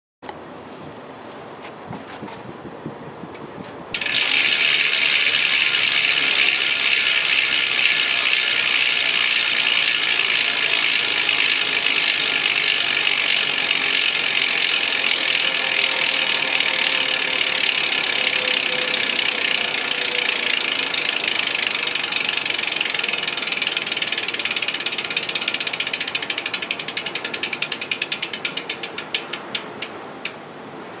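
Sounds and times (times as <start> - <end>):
freehub ratchet clicking: 3.9 - 30.6.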